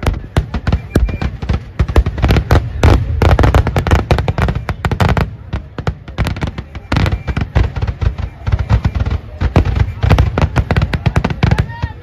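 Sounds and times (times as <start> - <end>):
firework crackers banging: 0.0 - 12.0.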